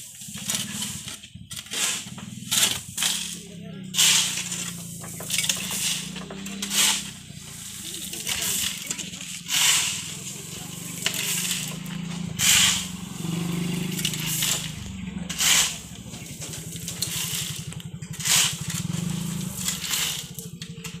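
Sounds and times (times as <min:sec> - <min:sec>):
engine humming: 0:00.0 - 0:21.0
shovel scooping gravel: 0:00.0 - 0:21.0.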